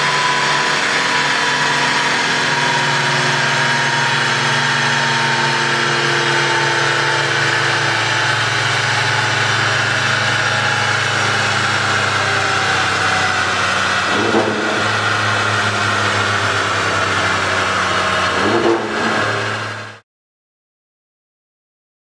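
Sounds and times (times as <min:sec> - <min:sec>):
car engine running on dyno: 0:00.0 - 0:20.0.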